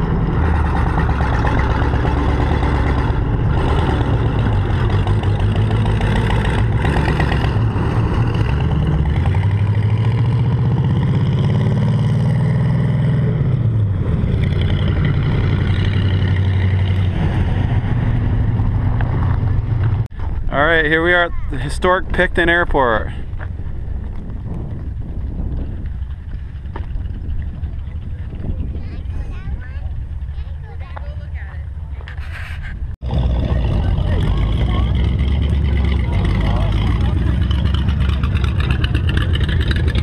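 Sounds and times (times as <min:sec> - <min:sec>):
tracked truck engine running: 0:00.0 - 0:40.0.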